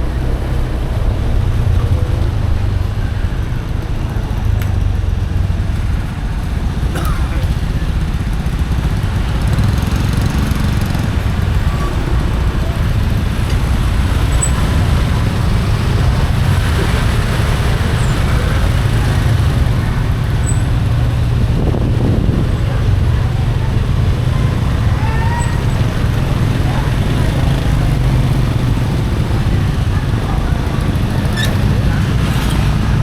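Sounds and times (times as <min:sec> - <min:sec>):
motorcycle engine running: 0:00.0 - 0:33.0
passing traffic: 0:00.0 - 0:33.0
road and wind noise: 0:00.0 - 0:33.0.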